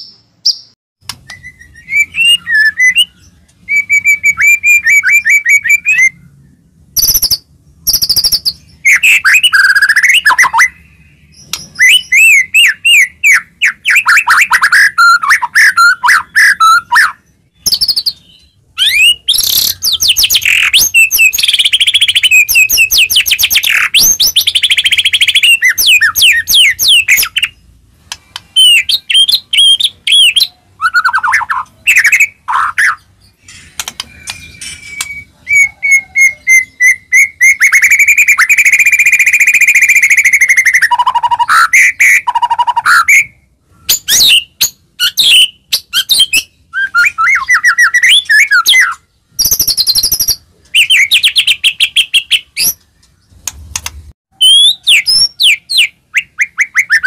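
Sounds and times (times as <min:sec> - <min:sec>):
bird whistled song: 0:00.0 - 0:53.4, 0:54.3 - 0:57.0.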